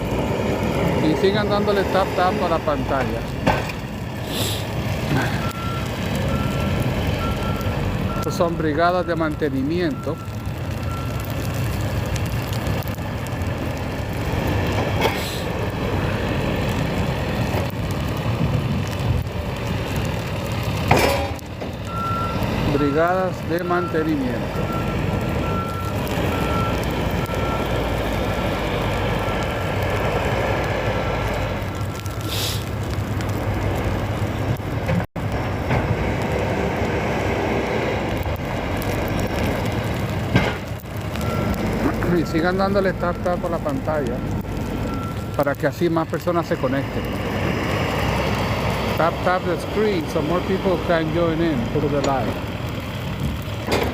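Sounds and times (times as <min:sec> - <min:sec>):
low engine rumble: 0:00.0 - 0:53.9.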